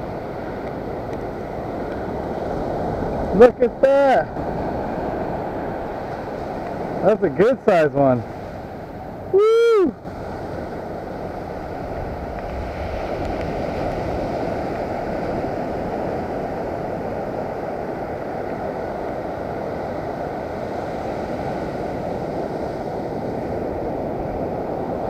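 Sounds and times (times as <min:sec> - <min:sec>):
surf breaking on beach: 0:00.0 - 0:25.0
wind noise on microphone: 0:00.0 - 0:25.0.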